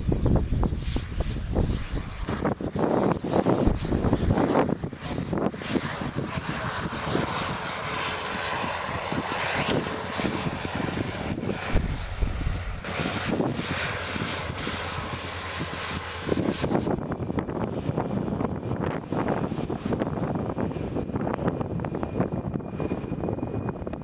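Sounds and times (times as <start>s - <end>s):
airliner engine rushing: 0.0s - 24.0s
wind buffeting microphone: 0.0s - 24.0s.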